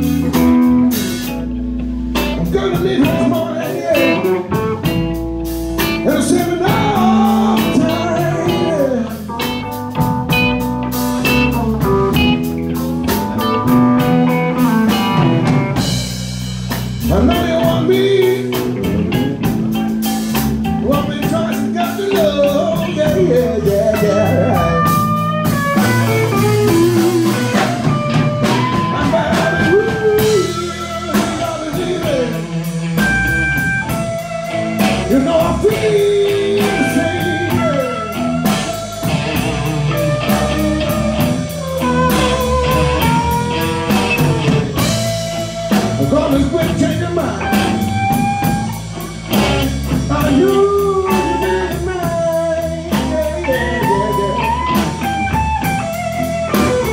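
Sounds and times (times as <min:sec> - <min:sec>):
blues-rock band playing: 0:00.0 - 0:56.9.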